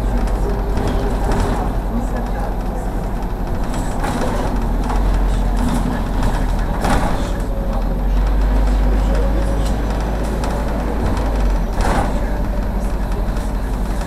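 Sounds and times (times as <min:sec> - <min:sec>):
bus engine and road noise: 0:00.0 - 0:14.0
knocks and rattles: 0:00.0 - 0:14.0.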